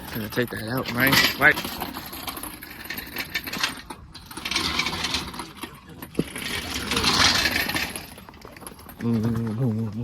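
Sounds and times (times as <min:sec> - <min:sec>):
metal tools clinking and rattling: 0:00.0 - 0:10.0.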